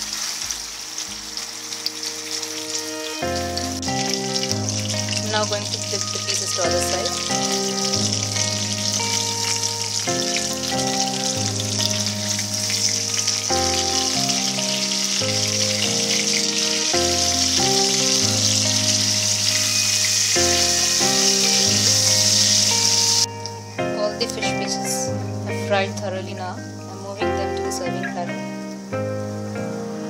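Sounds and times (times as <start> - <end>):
background music with held notes: 0.0 - 30.0
fish sizzling in hot oil: 0.0 - 30.0.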